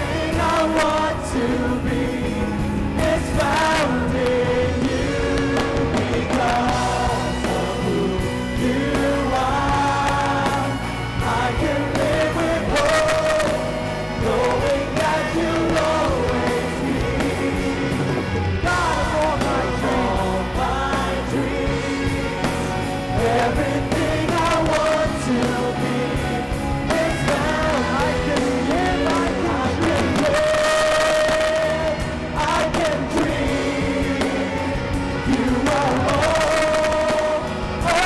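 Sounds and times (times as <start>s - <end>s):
congregation singing along: 0.0s - 38.0s
instrumental accompaniment: 0.0s - 38.0s
man singing into microphone: 0.0s - 38.0s.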